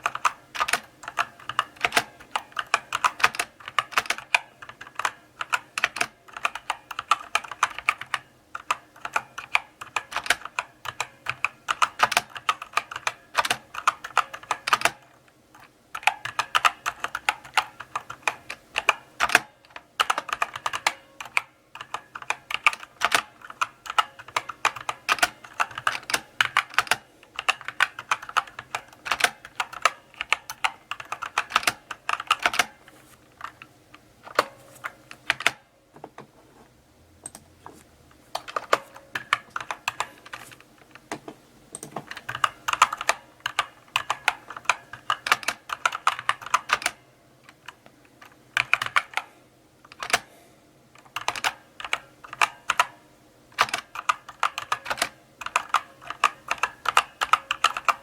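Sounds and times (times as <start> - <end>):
mechanical keyboard typing: 0.0 - 35.6, 38.3 - 50.3, 51.0 - 58.0.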